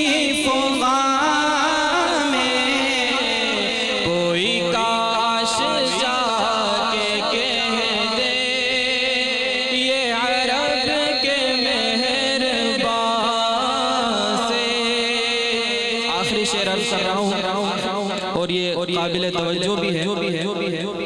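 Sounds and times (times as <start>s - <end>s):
man singing through a pa: 0.0s - 21.0s.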